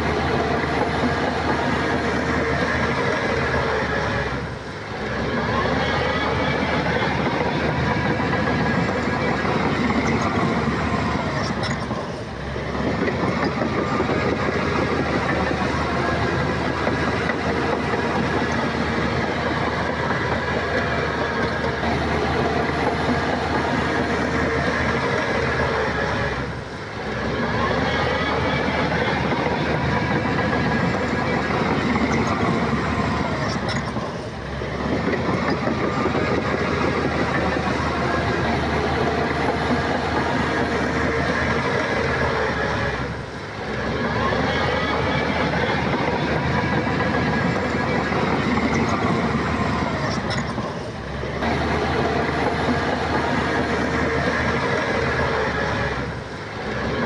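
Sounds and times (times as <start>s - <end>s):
bulldozer running under load: 0.0s - 57.0s
diesel machinery clattering: 0.0s - 57.0s
steel tracks clanking: 0.0s - 57.0s.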